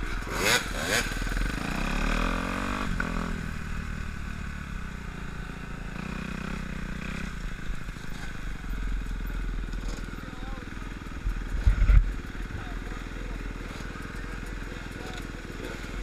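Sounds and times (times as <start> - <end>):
dirt bike engine revving: 0.0 - 8.5, 9.5 - 16.0.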